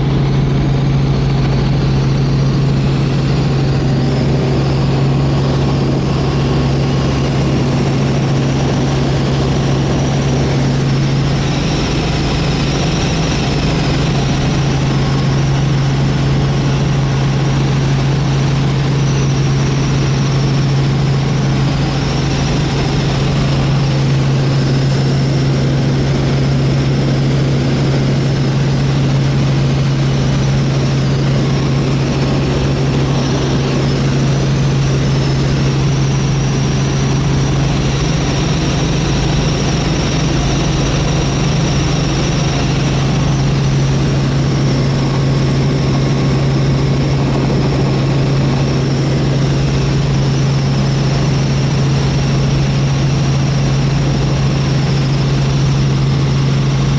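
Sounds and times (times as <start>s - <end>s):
helicopter engine and rotor noise: 0.0s - 56.9s.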